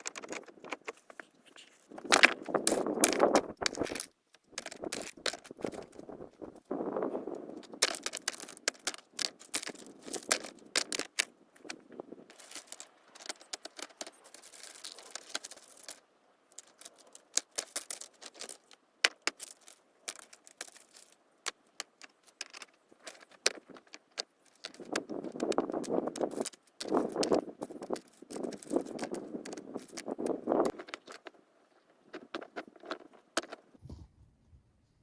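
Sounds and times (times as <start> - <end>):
stones knocking together: 0.0 - 1.3, 1.9 - 6.2, 7.5 - 16.0, 16.6 - 31.3
stones scraping: 0.0 - 34.0.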